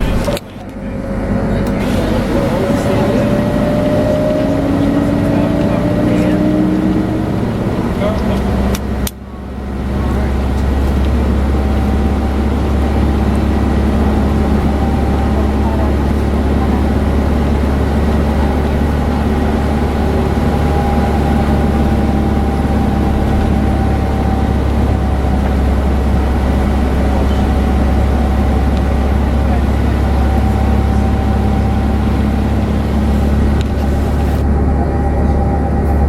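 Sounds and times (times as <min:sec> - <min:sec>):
aircraft cabin engine drone: 0:00.0 - 0:36.0.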